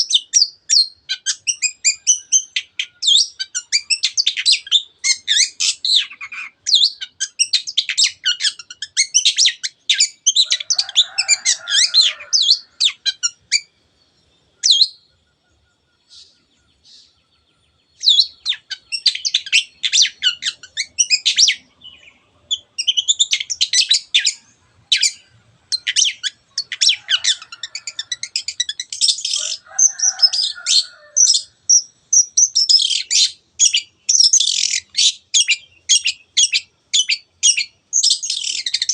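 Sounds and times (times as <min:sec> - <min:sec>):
bird singing chattering notes: 0:00.0 - 0:38.9.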